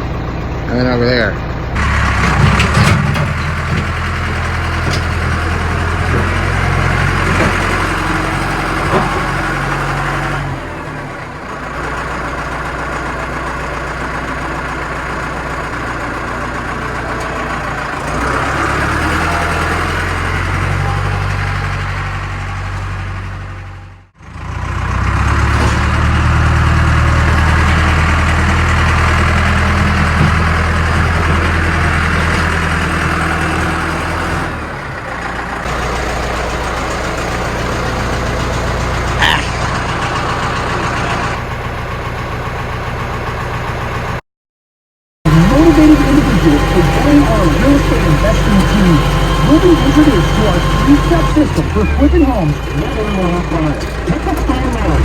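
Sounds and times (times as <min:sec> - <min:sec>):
tractor engine running: 0:00.0 - 0:44.2, 0:45.3 - 0:55.0.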